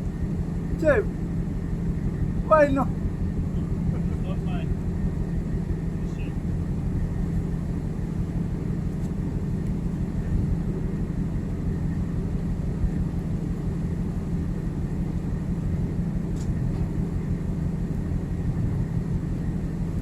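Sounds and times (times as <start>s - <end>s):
ship machinery droning: 0.0s - 20.0s.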